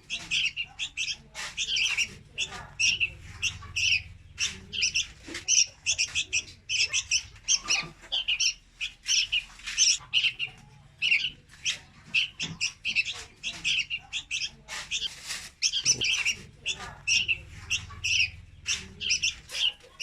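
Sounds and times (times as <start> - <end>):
bird chicks chirping: 0.0 - 20.0.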